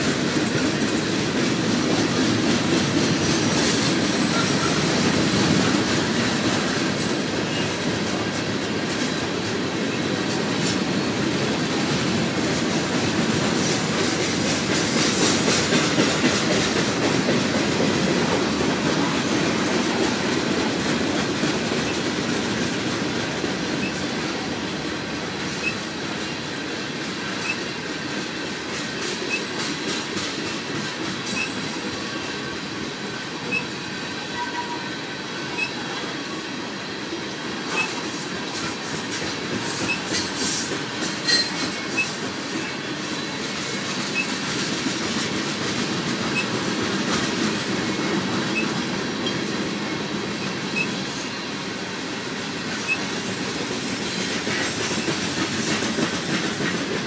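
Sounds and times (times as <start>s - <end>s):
wheels clicking over rail joints: 0.0s - 32.6s, 37.6s - 57.0s
freight train wheels rumbling: 0.0s - 57.0s.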